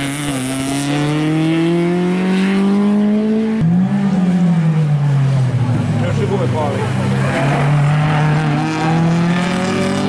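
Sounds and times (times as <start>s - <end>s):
race car engine accelerating: 0.0s - 10.0s.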